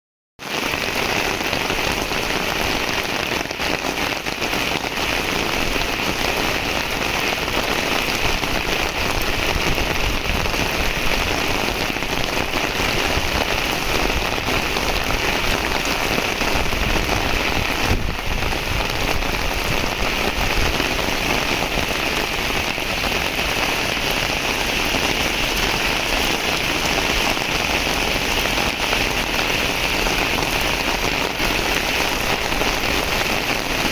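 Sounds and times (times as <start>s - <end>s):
heavy rain falling: 0.4s - 33.9s.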